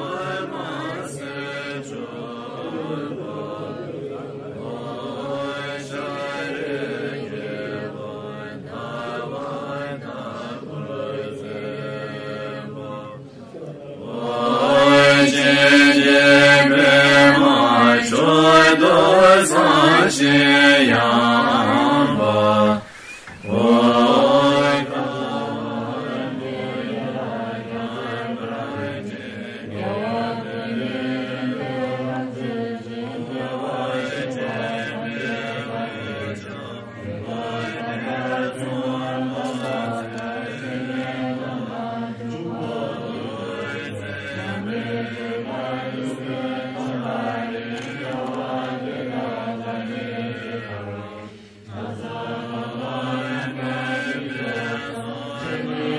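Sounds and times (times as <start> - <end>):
voices chanting: 0.0 - 55.9.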